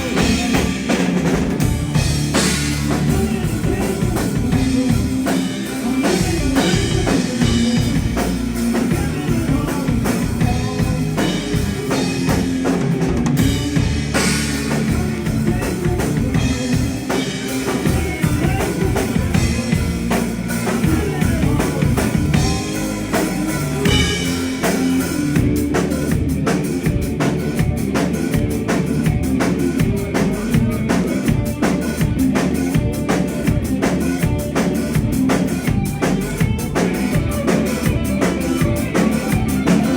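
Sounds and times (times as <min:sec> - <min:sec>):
bass guitar: 0:00.0 - 0:39.9
loud driving drum kit: 0:00.0 - 0:39.9
rock band playing live: 0:00.0 - 0:39.9.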